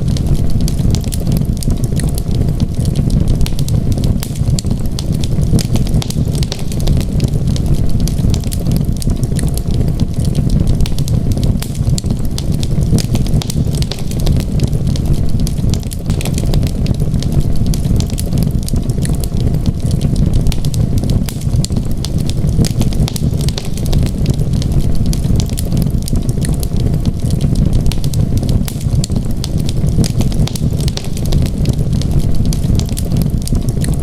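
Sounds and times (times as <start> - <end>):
low rumble of flames: 0.0 - 34.0
sharp pops from fire: 0.0 - 34.0
wood fire crackling: 0.0 - 34.0.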